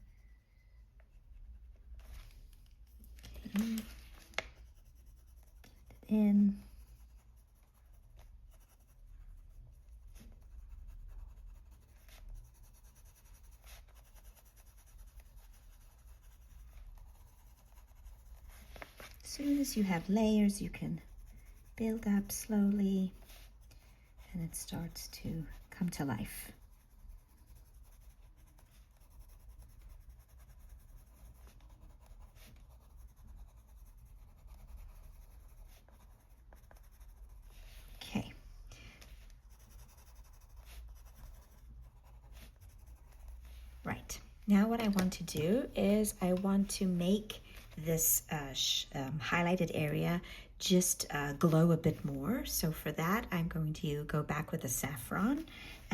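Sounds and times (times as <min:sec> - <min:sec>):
pencil scratching on paper: 0:00.0 - 0:54.1
low room hum: 0:00.0 - 0:55.9.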